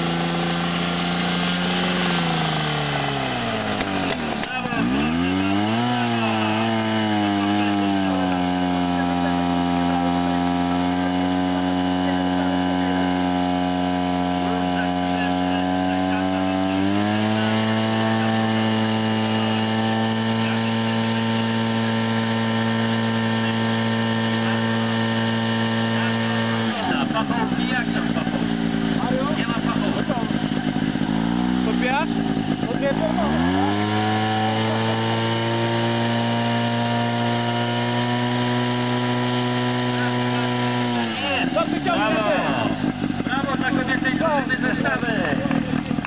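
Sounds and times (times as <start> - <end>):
fire pump engine running: 0.0 - 46.0.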